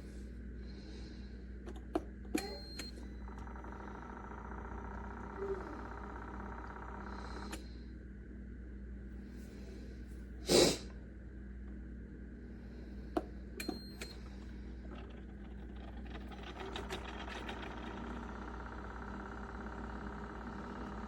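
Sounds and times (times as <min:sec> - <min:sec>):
coffee maker whirring hum: 0:00.0 - 0:21.0.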